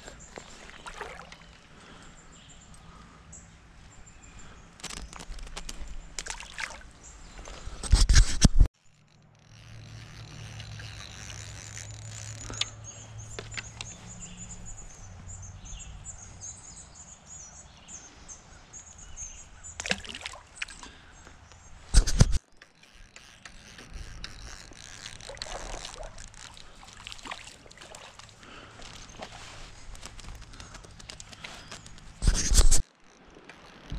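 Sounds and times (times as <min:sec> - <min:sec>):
creek water trickling: 0:00.0 - 0:07.8, 0:08.8 - 0:17.3, 0:17.9 - 0:32.2.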